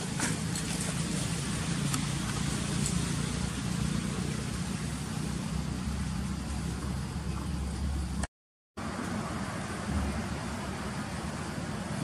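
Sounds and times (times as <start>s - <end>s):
low engine-like rumble with hiss: 0.0s - 12.0s.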